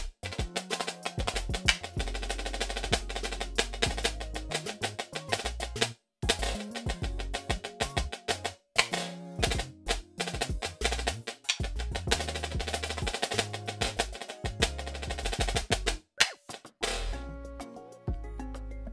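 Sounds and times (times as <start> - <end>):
snare drum played with sticks: 0.0 - 17.2.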